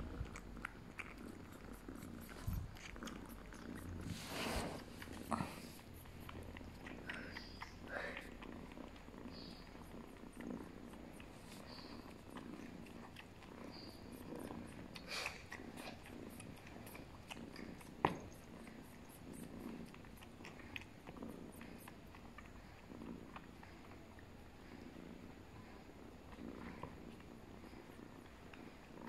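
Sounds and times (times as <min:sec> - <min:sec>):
cats purring: 0:00.0 - 0:29.0.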